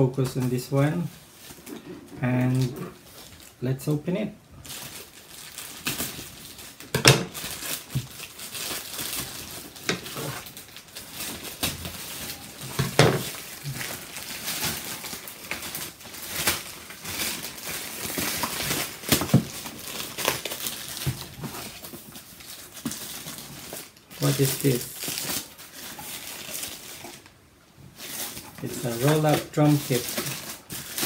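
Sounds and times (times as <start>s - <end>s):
plastic bag crinkling and tearing: 0.0s - 31.0s.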